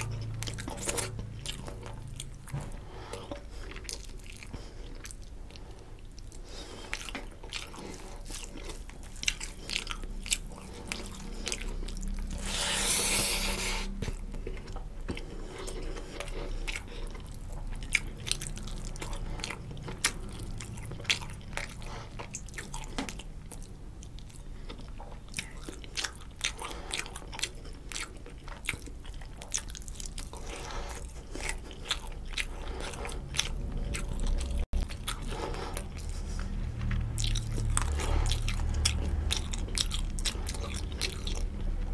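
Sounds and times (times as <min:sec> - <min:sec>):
man chewing food: 0:00.0 - 0:41.9.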